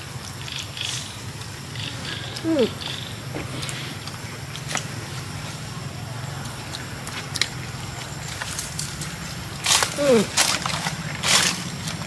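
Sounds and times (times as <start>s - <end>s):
clicks and rustles in dry leaves: 0.0s - 12.0s.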